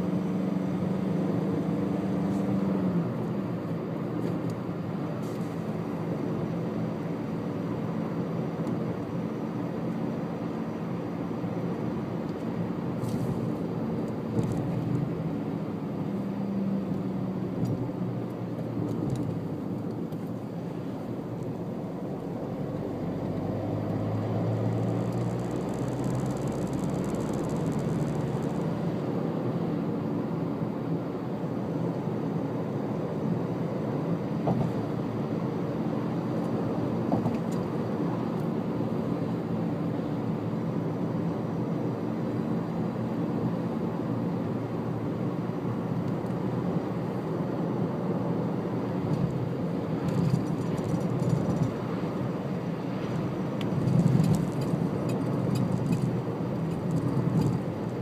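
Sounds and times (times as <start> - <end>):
car engine and tyre drone: 0.0 - 58.0.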